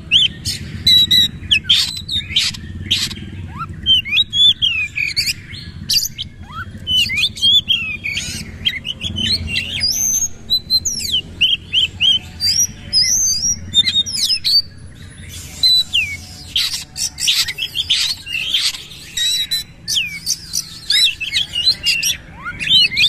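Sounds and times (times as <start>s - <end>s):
magpie-robin singing: 0.0s - 23.0s.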